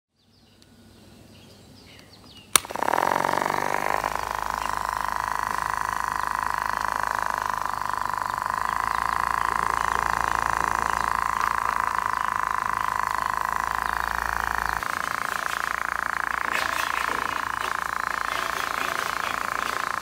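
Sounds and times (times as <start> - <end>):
small motor whirring: 2.5 - 20.0
faint bird chirps: 3.8 - 20.0.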